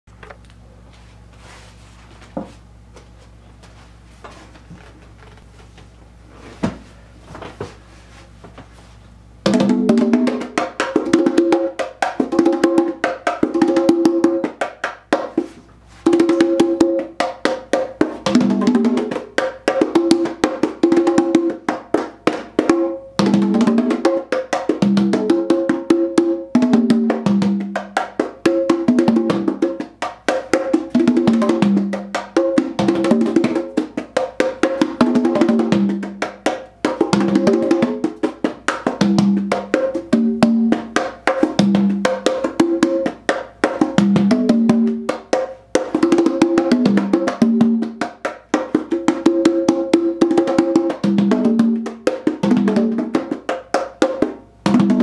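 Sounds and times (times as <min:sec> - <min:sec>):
congas played by hand: 0:09.4 - 0:55.0.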